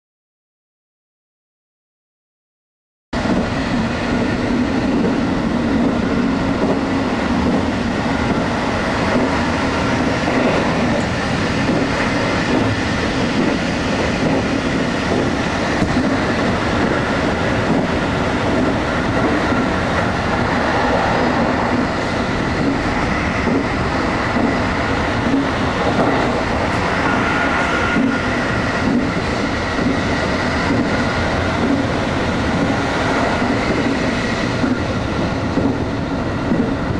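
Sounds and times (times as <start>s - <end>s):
train wheel and rail noise: 3.2s - 36.9s.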